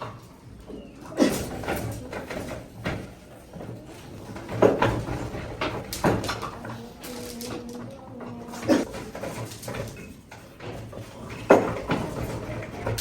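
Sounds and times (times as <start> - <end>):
sharp knocks and clatters: 0.0 - 13.0.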